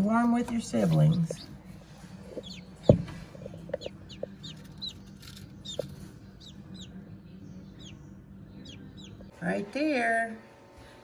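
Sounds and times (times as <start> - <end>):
chicks peeping: 0.3 - 9.3.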